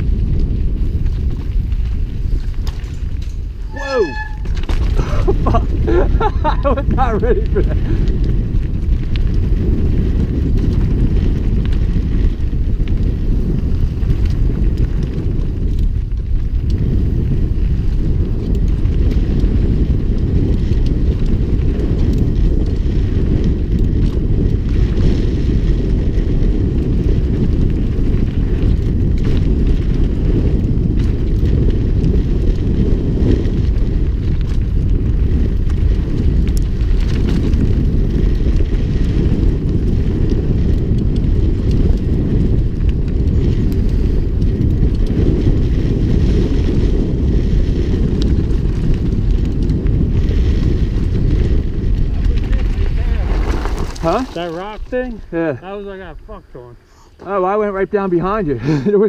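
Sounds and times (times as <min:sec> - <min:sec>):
bike clicks and rattles: 0:00.0 - 0:55.8, 0:56.9 - 0:59.0
wind buffeting microphone: 0:00.0 - 0:59.0.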